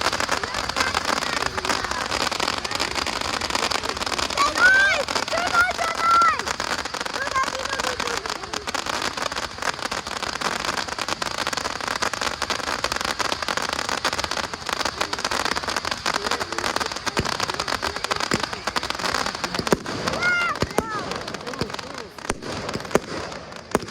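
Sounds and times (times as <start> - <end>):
fireworks crackling: 0.0 - 23.9
sharp firework cracks: 0.0 - 23.9.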